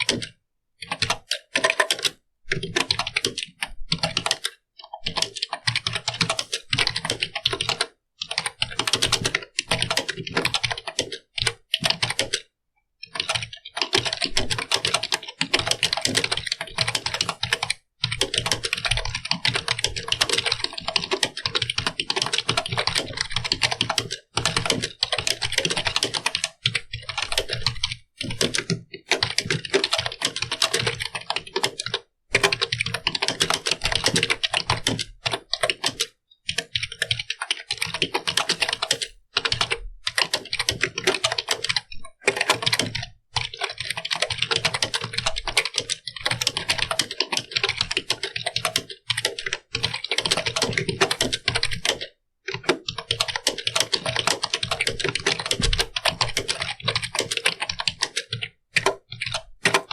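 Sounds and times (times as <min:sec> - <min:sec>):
keyboard typing: 0:00.0 - 0:59.9.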